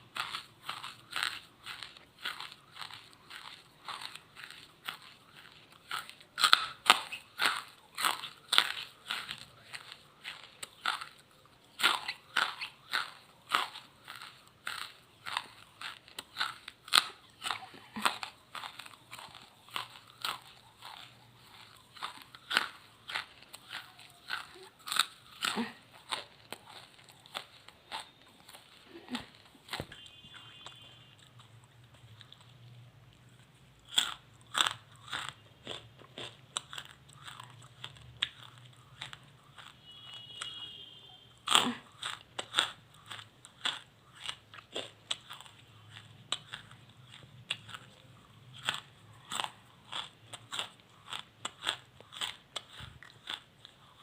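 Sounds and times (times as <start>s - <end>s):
person crunching charcoal: 0.0s - 32.6s, 33.5s - 40.6s, 41.4s - 54.0s.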